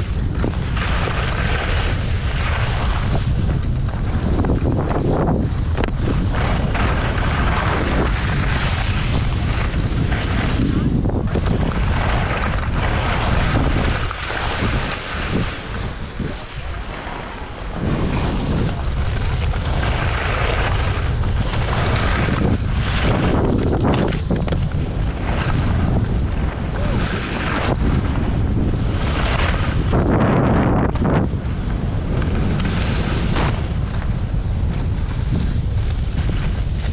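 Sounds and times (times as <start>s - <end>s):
skis scraping on snow: 0.0s - 36.9s
wind buffeting microphone: 0.0s - 36.9s.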